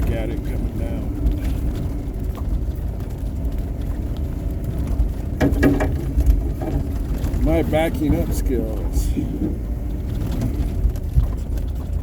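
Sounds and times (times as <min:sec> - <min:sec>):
snowplow engine rumbling: 0:00.0 - 0:12.0.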